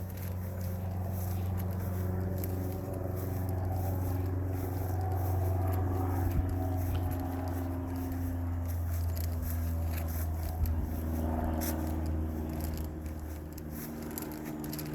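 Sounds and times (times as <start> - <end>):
low engine hum: 0.0 - 14.9.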